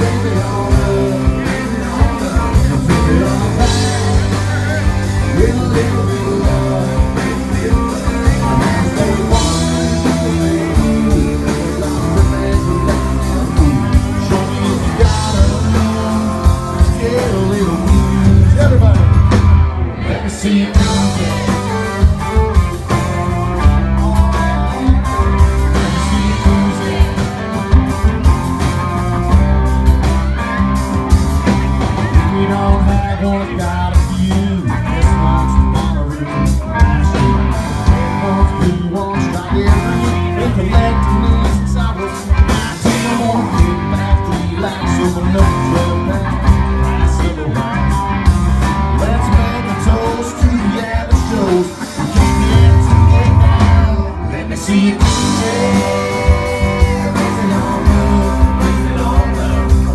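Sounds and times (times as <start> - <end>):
live band playing: 0.0 - 59.9
man singing: 0.0 - 59.9.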